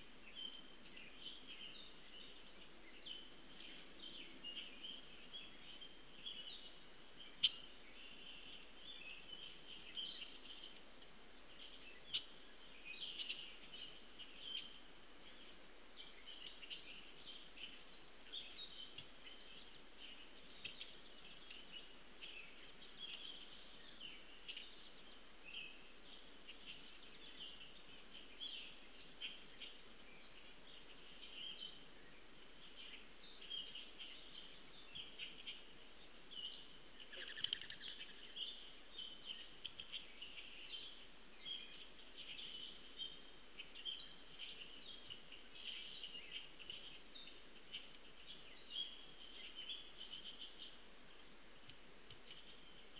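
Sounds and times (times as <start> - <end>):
small birds chirping and singing: 0.0 - 52.9.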